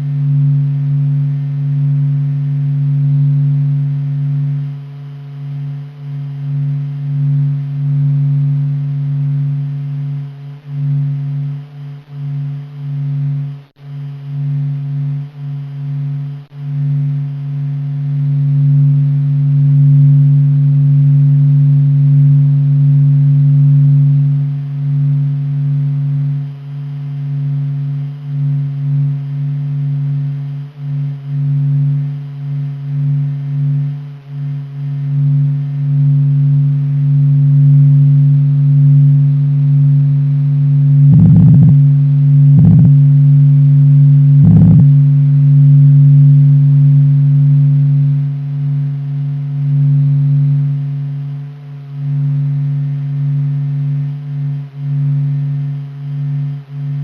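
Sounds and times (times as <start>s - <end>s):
deep steady drone hum: 0.0s - 57.0s.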